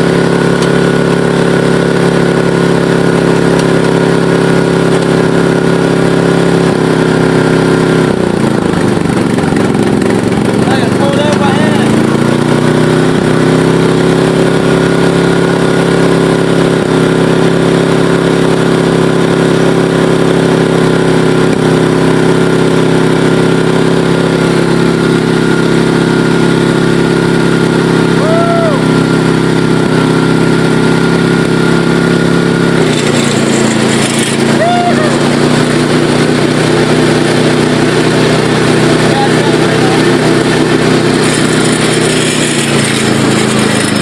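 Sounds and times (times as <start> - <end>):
lawn tractor engine running: 0.0 - 44.0.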